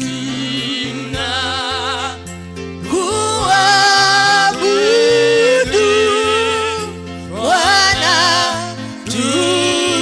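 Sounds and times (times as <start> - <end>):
person singing with vibrato: 0.0 - 10.0
sustained bass notes: 0.0 - 10.0.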